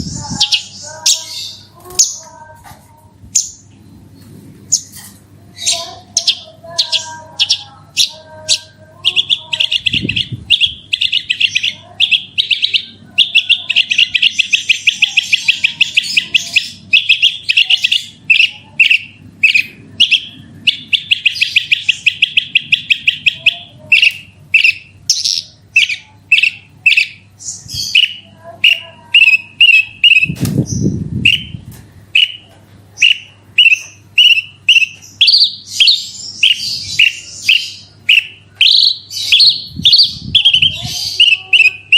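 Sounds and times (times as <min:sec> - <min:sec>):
bird singing chips and trills: 0:05.6 - 0:31.6, 0:32.2 - 0:41.9.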